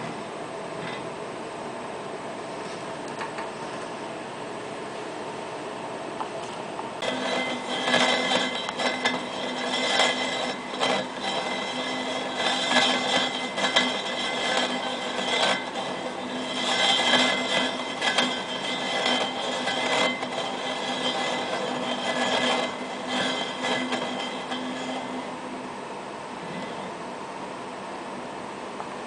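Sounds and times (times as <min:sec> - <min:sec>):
wheel spinning with whirring hum: 0:00.0 - 0:29.0.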